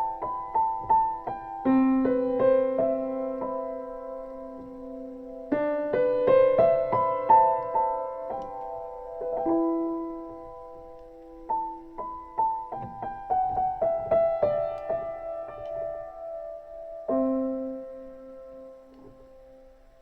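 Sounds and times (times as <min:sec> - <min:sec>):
solo piano: 0:00.0 - 0:20.0.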